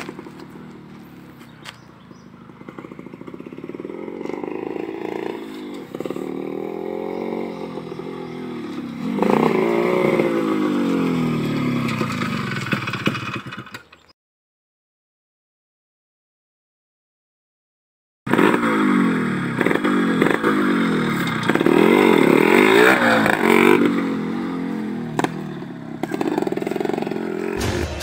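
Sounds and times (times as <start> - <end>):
two-stroke motorcycle revving: 0.0 - 14.0, 18.3 - 28.0.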